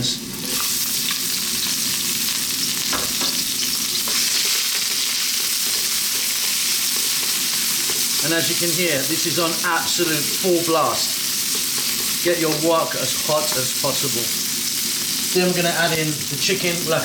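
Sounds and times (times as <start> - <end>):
food sizzling in oil: 0.1 - 17.0.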